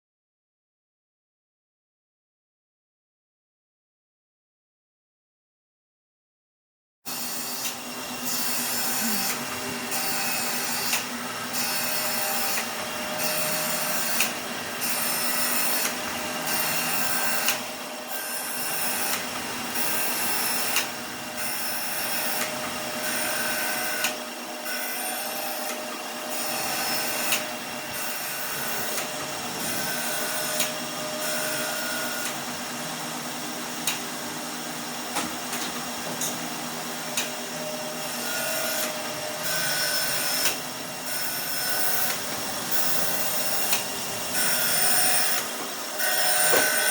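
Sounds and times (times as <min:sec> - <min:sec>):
metalworking power tool running: 0:07.1 - 0:46.9.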